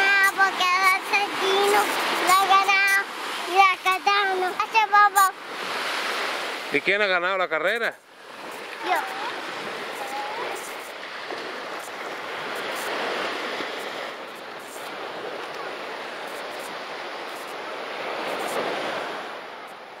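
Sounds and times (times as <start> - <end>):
surf washing on beach: 0.0 - 20.0.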